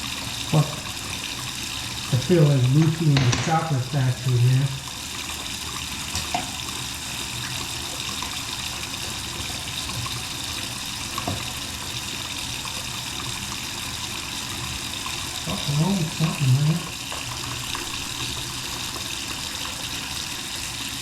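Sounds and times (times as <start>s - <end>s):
faucet running into sink: 0.0s - 21.0s.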